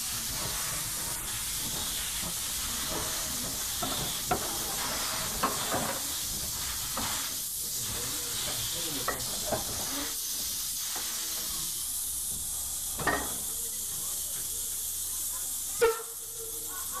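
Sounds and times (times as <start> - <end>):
steam hissing: 0.0 - 17.0.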